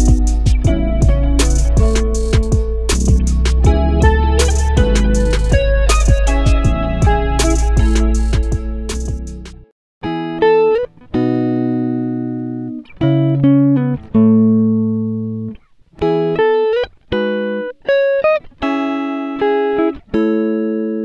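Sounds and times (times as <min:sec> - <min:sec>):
guitar playing chords: 0:00.0 - 0:21.0.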